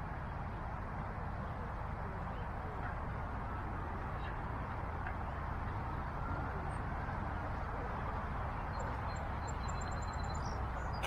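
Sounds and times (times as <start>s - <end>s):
outdoor rumble and hiss: 0.0s - 11.0s.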